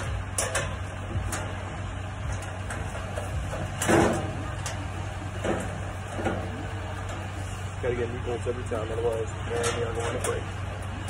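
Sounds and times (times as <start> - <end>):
tools clanking on metal: 0.0 - 7.6, 8.7 - 10.6
steady low hum: 0.0 - 11.0.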